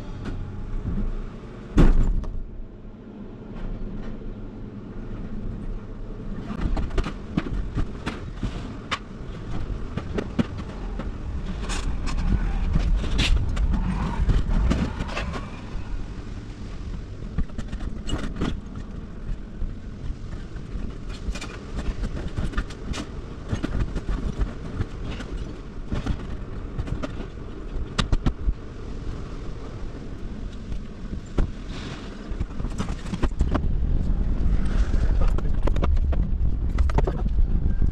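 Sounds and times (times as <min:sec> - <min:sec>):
vehicle engine rumble: 0:00.0 - 0:37.9.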